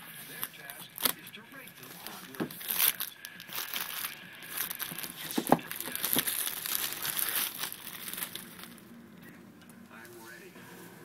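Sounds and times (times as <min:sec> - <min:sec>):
plastic shrink-wrap crinkling and tearing: 0:00.0 - 0:08.9.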